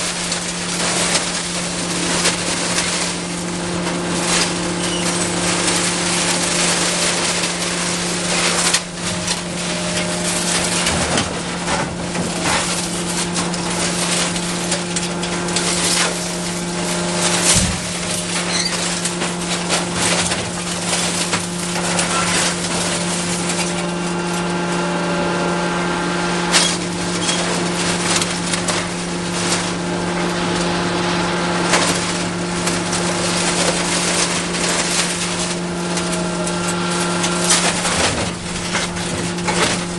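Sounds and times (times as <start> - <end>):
excavator engine humming: 0.0 - 39.9
scrap metal clanking and crashing: 0.0 - 39.9.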